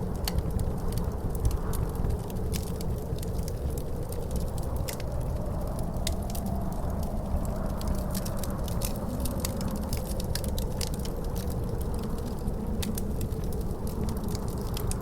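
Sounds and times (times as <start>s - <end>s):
howling wind: 0.0s - 15.0s
low steady roar: 0.0s - 15.0s
wood fire crackling and popping: 0.0s - 15.0s.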